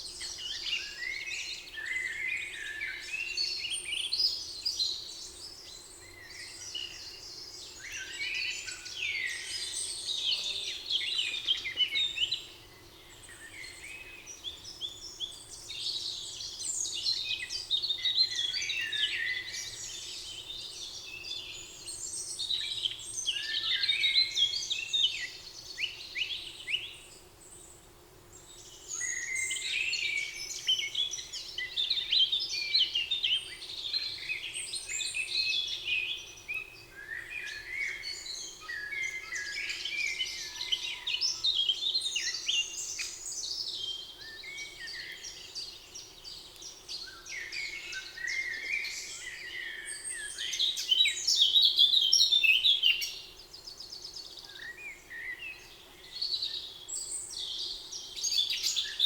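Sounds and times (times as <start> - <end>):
songbirds chorus chirping: 0.0 - 59.0.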